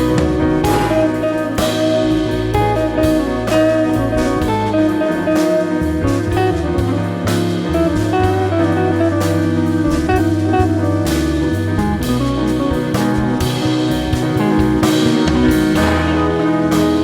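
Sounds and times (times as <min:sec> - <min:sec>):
bass notes: 0:00.0 - 0:17.0
drums: 0:00.0 - 0:17.0
electric guitar: 0:00.0 - 0:17.0.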